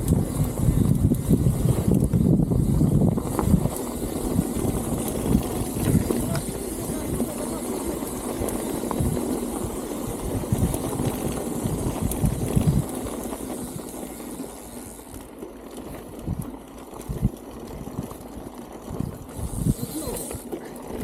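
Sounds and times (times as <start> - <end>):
wind buffeting microphone: 0.0 - 13.8, 16.1 - 21.0.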